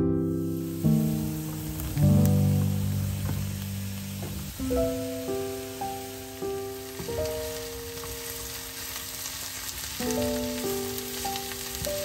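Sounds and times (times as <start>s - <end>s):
soft background music: 0.0s - 12.0s
vegetables sizzling in oil: 0.3s - 12.0s.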